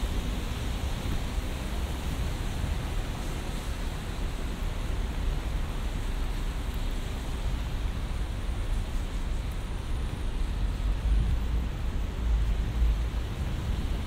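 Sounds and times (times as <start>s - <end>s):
low traffic rumble: 0.0s - 14.0s
rain hiss: 0.0s - 14.0s
traffic on wet road: 0.0s - 14.0s.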